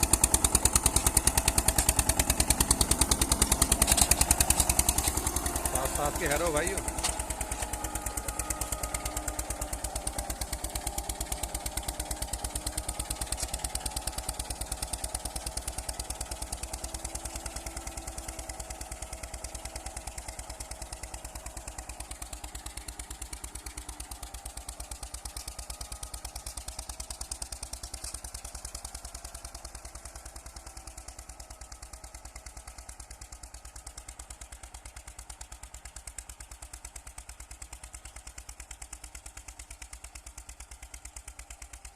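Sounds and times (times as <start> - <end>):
tractor engine chugging: 0.0 - 41.9.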